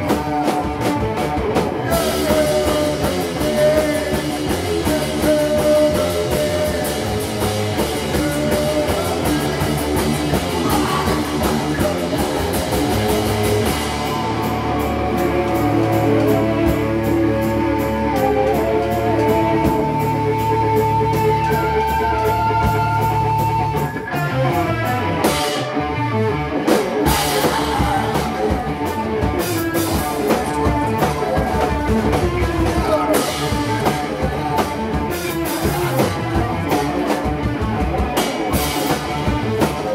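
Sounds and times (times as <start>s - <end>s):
drum kit: 0.0s - 39.9s
electric guitars: 0.0s - 39.9s
rock band playing: 0.0s - 39.9s.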